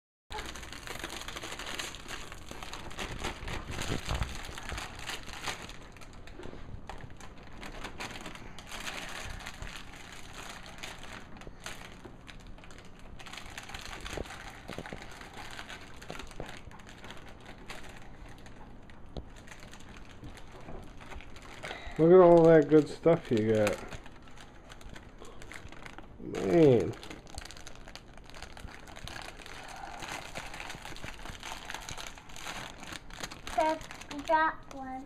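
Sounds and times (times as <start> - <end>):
bags and packaging rustling: 0.3 - 35.0.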